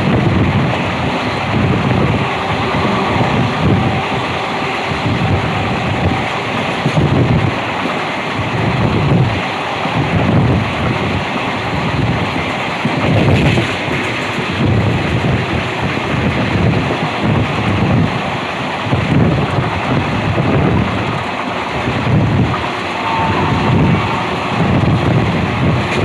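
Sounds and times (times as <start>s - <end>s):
train rushing rumble: 0.0s - 26.0s
wind buffeting microphone: 0.0s - 26.0s.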